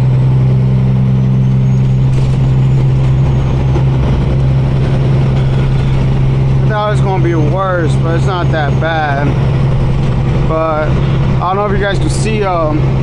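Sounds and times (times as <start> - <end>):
road noise: 0.0 - 13.0
truck diesel engine droning: 0.0 - 13.0.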